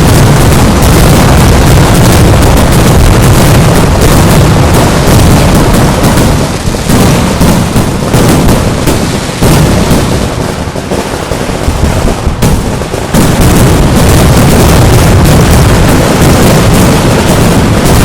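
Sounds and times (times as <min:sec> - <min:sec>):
fireworks barrage of bangs: 0:00.0 - 0:18.0.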